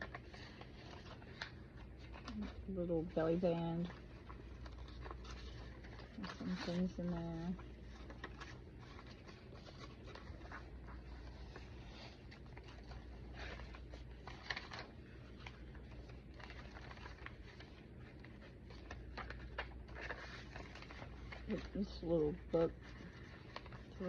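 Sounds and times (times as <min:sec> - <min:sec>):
low steady hum: 0:00.0 - 0:24.0
paper pages rustling: 0:00.0 - 0:24.0.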